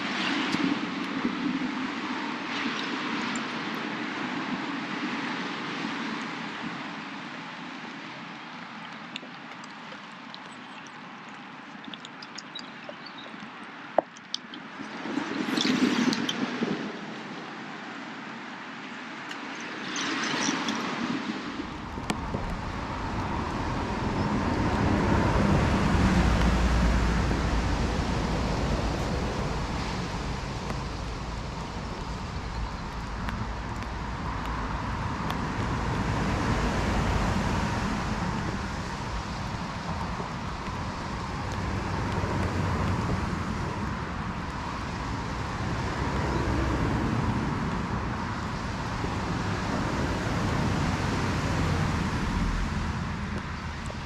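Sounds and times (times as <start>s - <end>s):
distant road traffic rumble: 0.0s - 54.0s.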